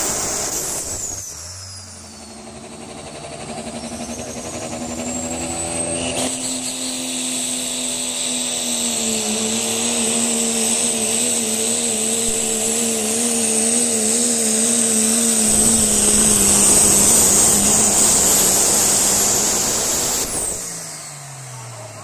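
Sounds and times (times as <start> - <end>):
high turbo whistle: 0.0 - 21.9
diesel truck engine drone: 0.0 - 22.0.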